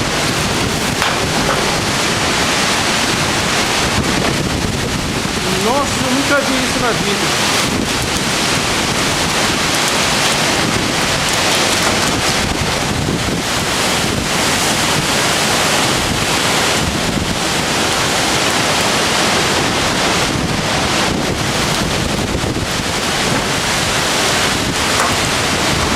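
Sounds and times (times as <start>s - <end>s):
storm wind roaring: 0.0s - 25.9s.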